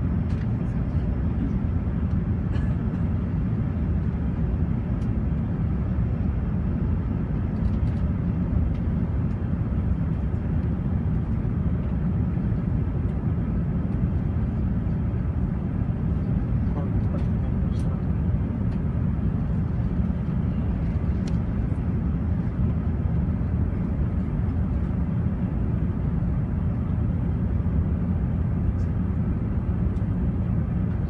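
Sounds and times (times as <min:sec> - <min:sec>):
airplane cabin rumble: 0:00.0 - 0:31.0.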